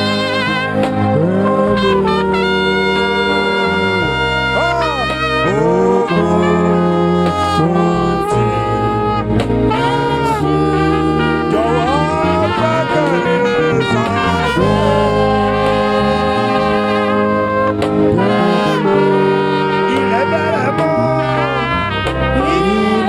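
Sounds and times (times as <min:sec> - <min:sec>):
gospel band music: 0:00.0 - 0:23.0
saxophone melody: 0:00.0 - 0:23.0.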